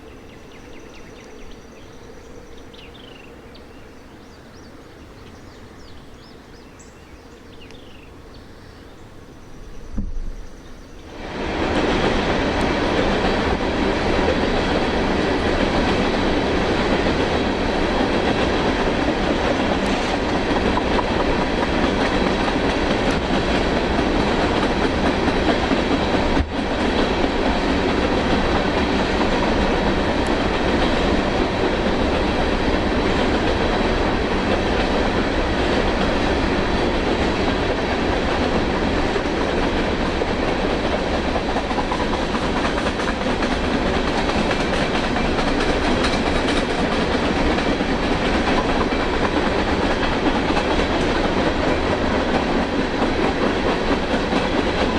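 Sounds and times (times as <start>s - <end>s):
train rolling on rails: 0.0s - 54.9s.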